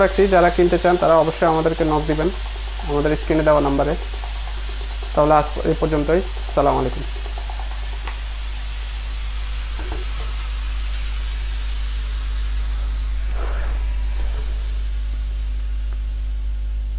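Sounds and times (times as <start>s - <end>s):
mist sprayer hissing: 0.0s - 16.9s
constant low hum: 1.3s - 16.9s.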